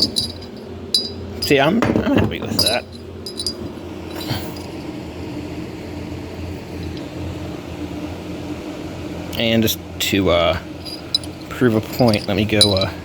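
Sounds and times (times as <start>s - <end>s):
fan motor humming: 0.0s - 13.0s.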